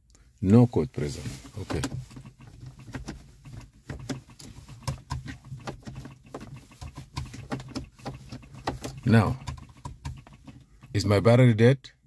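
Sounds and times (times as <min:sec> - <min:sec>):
dashboard controls clicking: 0:00.5 - 0:11.1.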